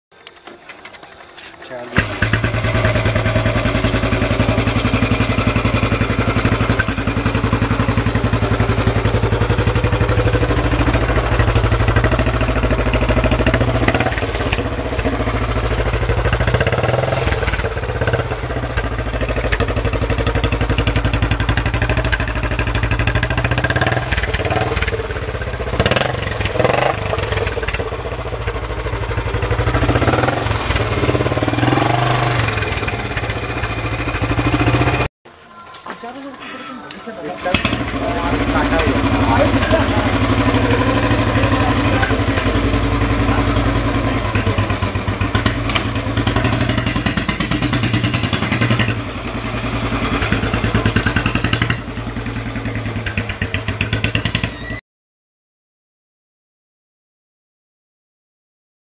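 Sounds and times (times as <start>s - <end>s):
motorcycle engine idling: 0.2s - 35.1s, 37.2s - 54.8s.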